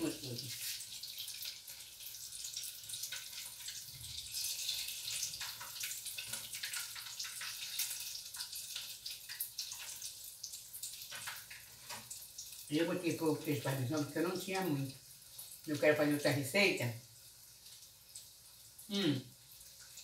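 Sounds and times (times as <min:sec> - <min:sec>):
fritters sizzling in oil: 0:00.0 - 0:20.0.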